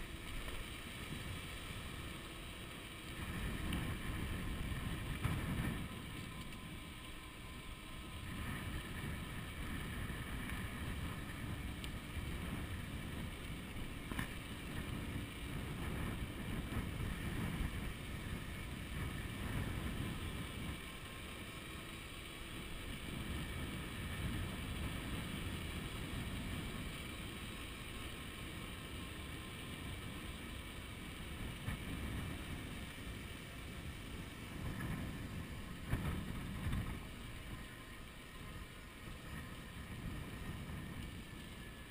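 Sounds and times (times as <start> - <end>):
wind buffeting microphone: 1.0 - 21.2, 22.7 - 27.6, 30.9 - 41.9.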